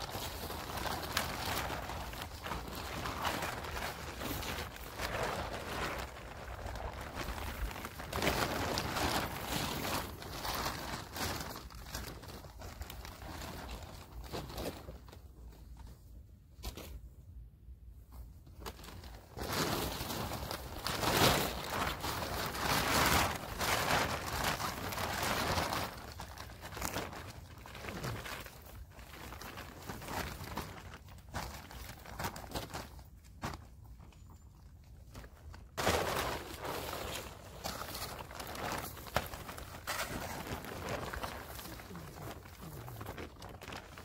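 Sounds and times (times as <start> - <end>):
rustling and crunching of dry leaves: 0.0 - 15.1, 18.7 - 44.0.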